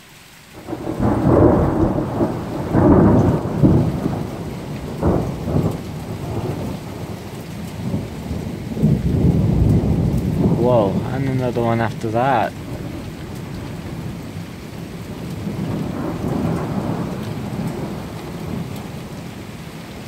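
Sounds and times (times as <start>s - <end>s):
steady rain: 0.0s - 20.0s
thunder rumbling and cracking: 0.6s - 19.6s.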